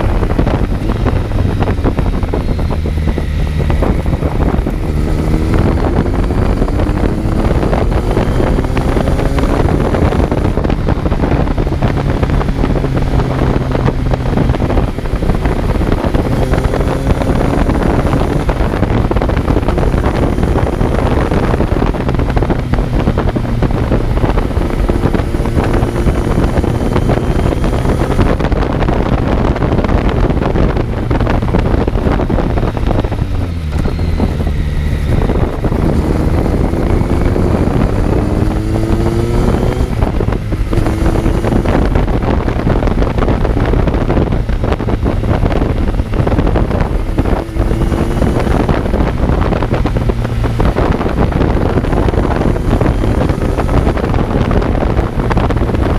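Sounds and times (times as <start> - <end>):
motorcycle engine revving through gears: 0.0 - 55.9
wind rush on microphone: 0.0 - 55.9.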